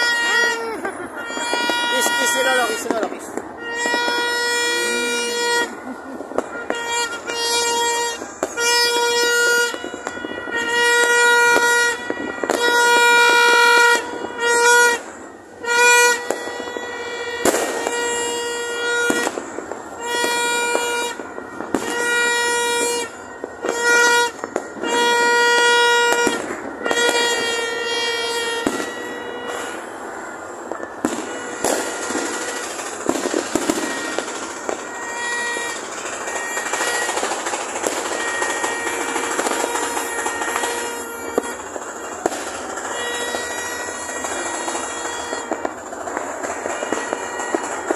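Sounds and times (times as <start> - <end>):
fireworks cracking: 0.0 - 47.9
party horn toots: 0.0 - 47.9.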